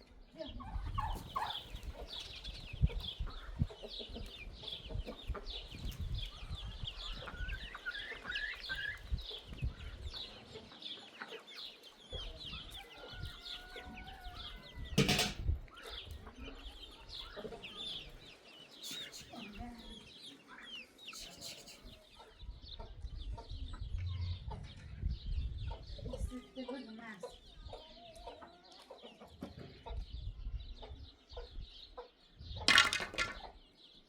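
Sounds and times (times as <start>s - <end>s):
chickens clucking: 0.1s - 34.0s.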